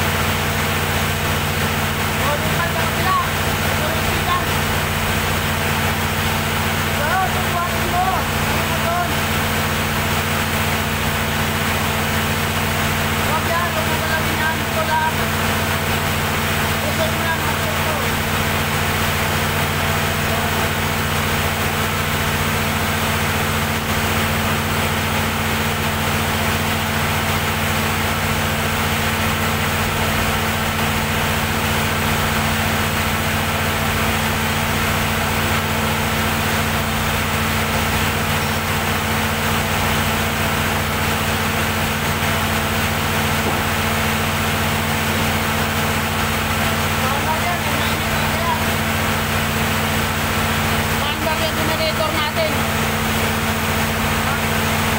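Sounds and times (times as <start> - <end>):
diesel generator droning: 0.0 - 54.9.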